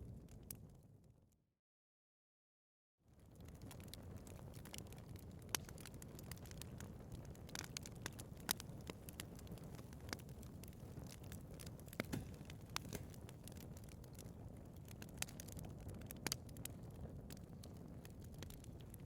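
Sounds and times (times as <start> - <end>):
wood fire crackling and popping: 0.0 - 0.8, 3.1 - 19.0
fire low rumble: 0.0 - 1.2, 3.1 - 19.0.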